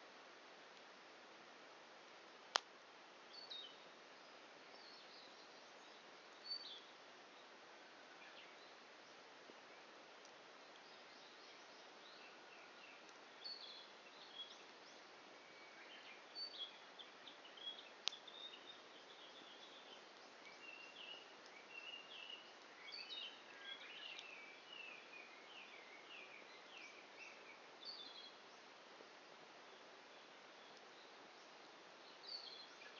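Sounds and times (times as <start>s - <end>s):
faint steady hiss: 0.0s - 32.9s
small birds chirping: 3.2s - 32.9s.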